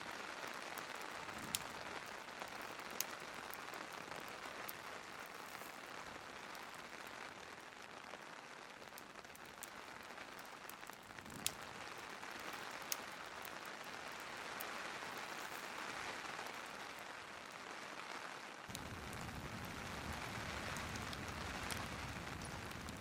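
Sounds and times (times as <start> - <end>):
fire crackling and popping: 0.0 - 23.0
rain hiss: 0.0 - 23.0.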